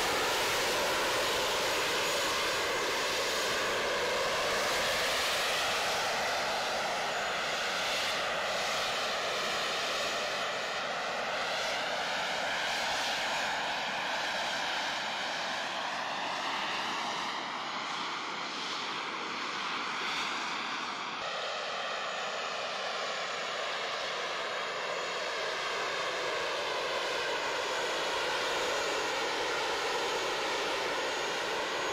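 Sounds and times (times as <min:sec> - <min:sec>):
jet turbine roar: 0:00.0 - 0:31.9.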